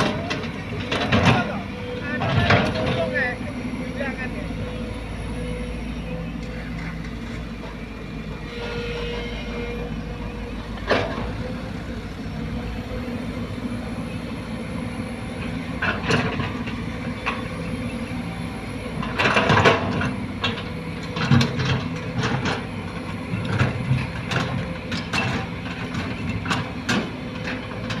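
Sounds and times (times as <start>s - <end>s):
diesel engines running: 0.0s - 28.0s.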